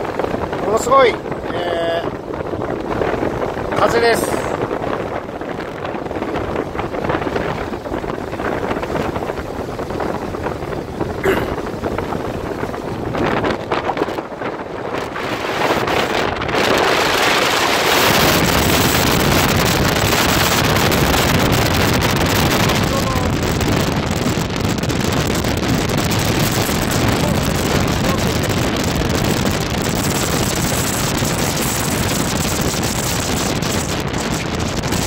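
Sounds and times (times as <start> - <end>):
strong wind blasting microphone: 0.0 - 35.0
surf of high waves: 0.0 - 35.0.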